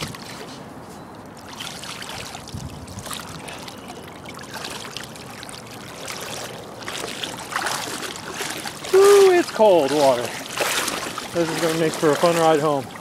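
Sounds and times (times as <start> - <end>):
floodwater sloshing and splashing: 0.0 - 13.0.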